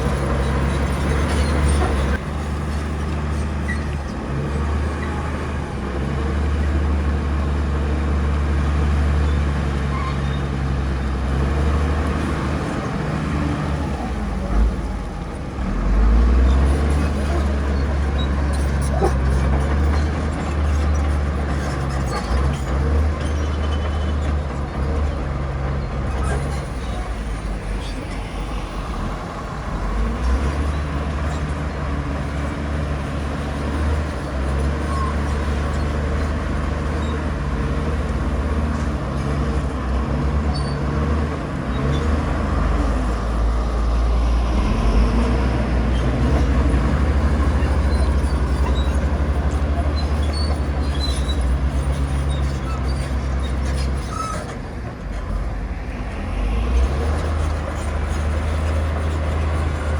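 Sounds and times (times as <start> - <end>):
heavy machinery diesel engine drone: 0.0 - 59.9.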